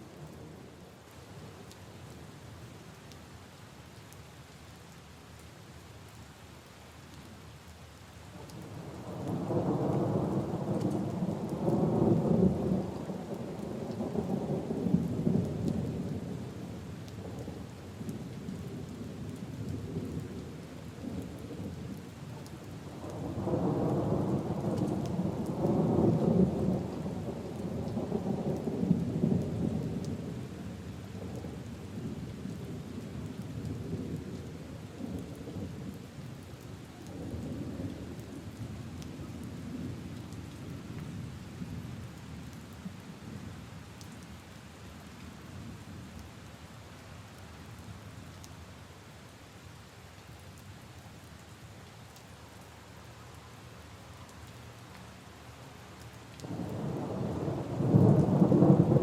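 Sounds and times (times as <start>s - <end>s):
rain on puddles and leaves: 0.0s - 59.0s.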